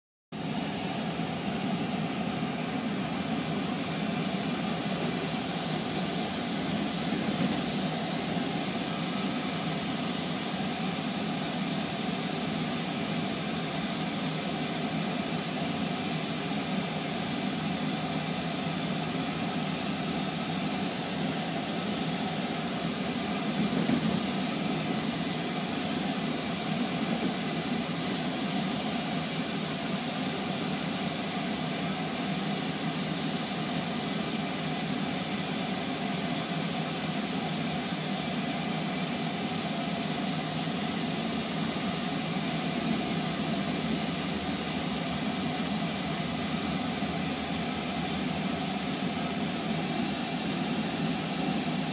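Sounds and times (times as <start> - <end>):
train rumble inside passenger car: 0.4 - 51.9.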